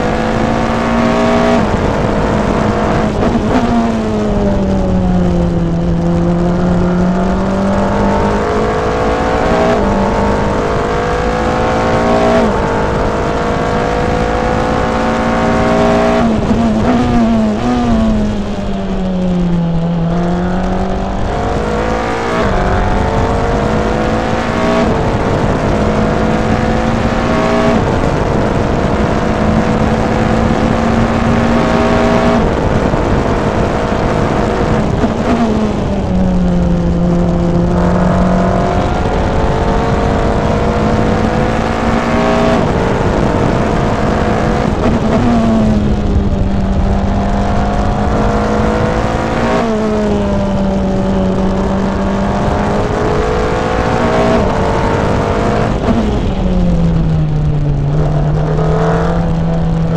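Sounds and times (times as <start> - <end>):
race car engine shifting gears: 0.0 - 59.9.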